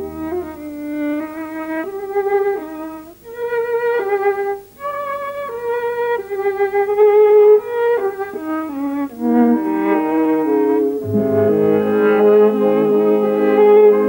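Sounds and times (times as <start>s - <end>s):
violin playing slow melody: 0.0s - 14.0s.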